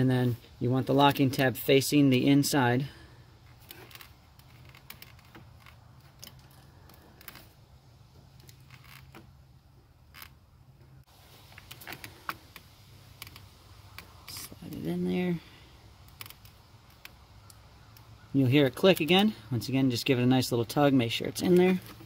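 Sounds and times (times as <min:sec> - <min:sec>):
small handling noises: 0:00.2 - 0:22.0.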